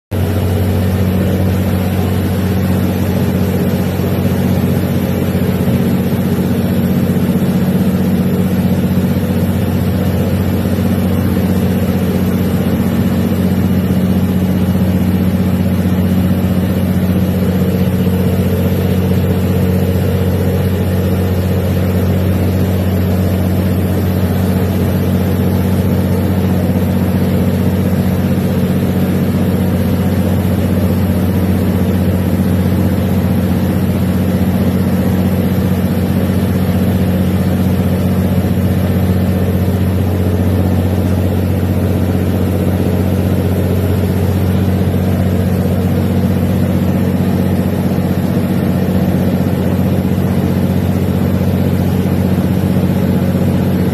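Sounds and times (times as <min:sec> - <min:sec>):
boat diesel engine droning: 0:00.1 - 0:53.9
water rushing along hull: 0:00.2 - 0:53.9.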